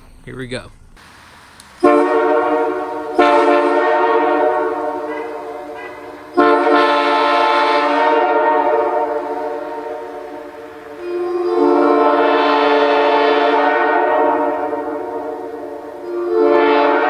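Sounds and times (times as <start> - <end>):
locomotive air horn blasts: 1.8 - 17.0.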